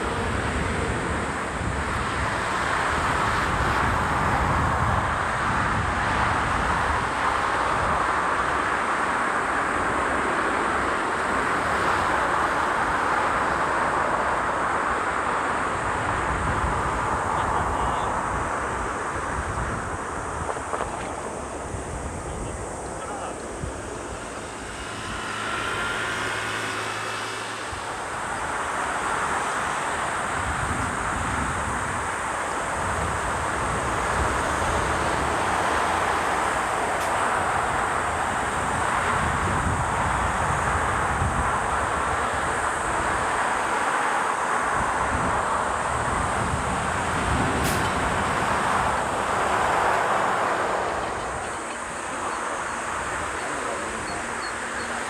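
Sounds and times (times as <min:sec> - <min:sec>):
jet engines rumbling: 0:00.0 - 0:55.0
wind noise: 0:00.0 - 0:55.0.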